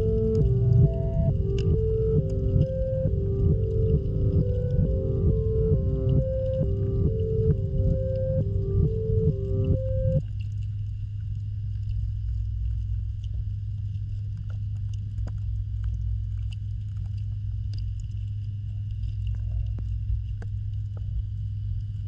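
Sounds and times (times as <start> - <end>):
faint clicks and ticks: 0.0 - 22.0
steady low underwater hum: 0.0 - 22.0.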